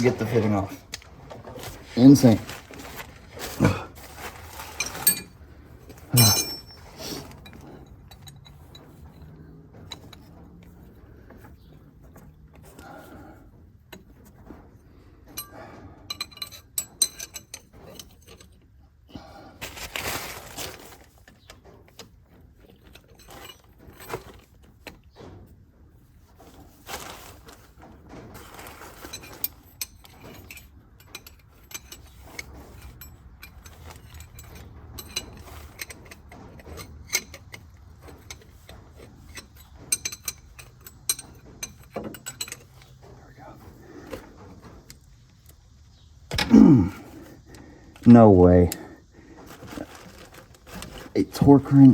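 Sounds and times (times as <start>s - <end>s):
wrenches clinking against metal: 0.0s - 45.6s, 46.3s - 51.9s
scraping rustles: 0.0s - 51.9s.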